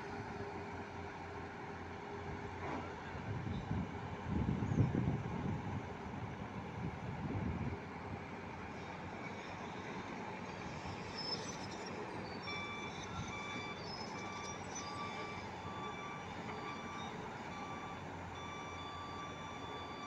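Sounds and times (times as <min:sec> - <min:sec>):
crane engine running: 0:00.0 - 0:20.0.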